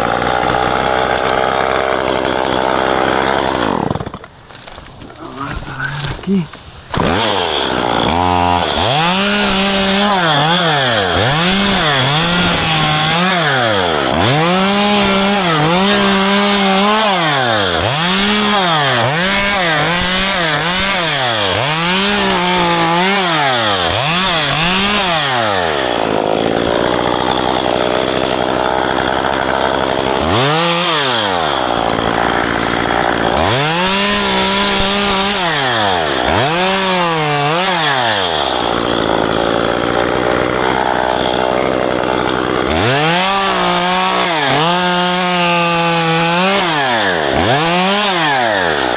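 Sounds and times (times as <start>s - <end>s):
pruning saw engine revving: 0.0s - 48.9s.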